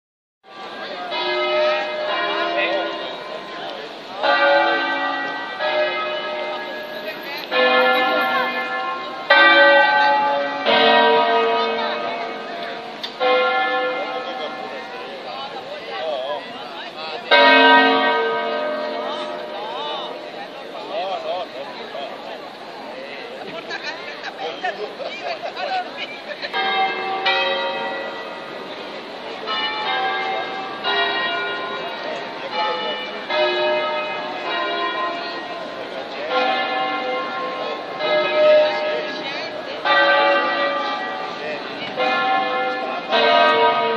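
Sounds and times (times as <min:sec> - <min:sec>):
church bells ringing: 0:00.5 - 0:43.9.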